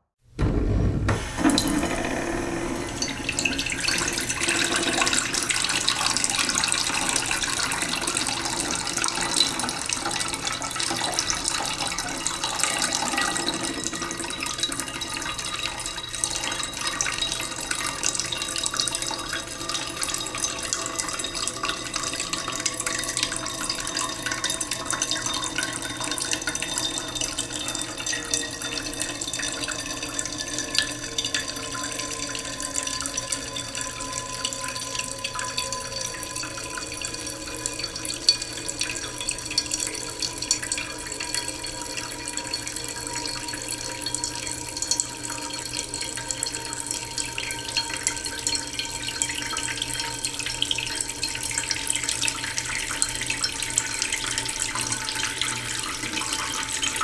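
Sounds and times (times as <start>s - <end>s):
tap water running into pot: 0.8s - 57.0s.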